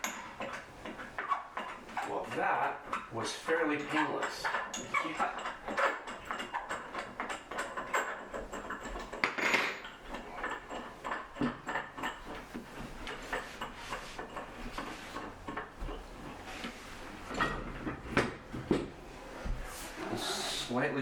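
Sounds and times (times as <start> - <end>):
wooden and metal parts clinking: 0.0 - 18.8
scrape and clatter: 0.0 - 20.8.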